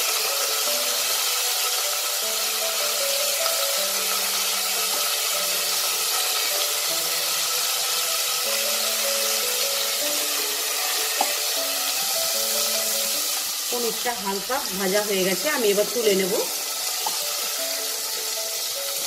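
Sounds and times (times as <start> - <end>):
cheese sizzling in hot oil: 0.0 - 19.0
soft background music: 0.0 - 19.0.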